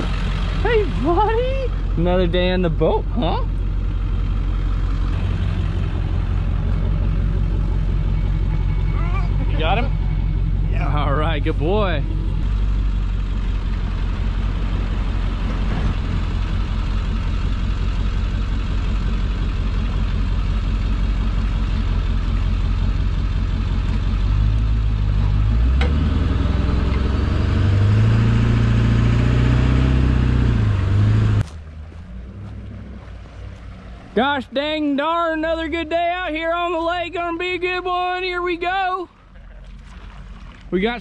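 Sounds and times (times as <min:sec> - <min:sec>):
truck engine rumbling and revving: 0:00.0 - 0:41.0.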